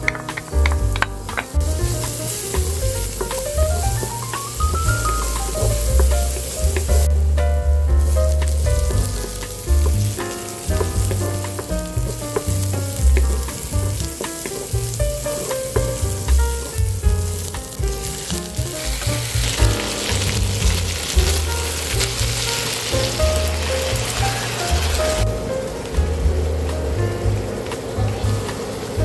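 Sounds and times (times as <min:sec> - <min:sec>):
stirring in a pan: 0:00.0 - 0:25.3
food sizzling in a pan: 0:00.0 - 0:26.0
background music with bass line: 0:00.0 - 0:28.6.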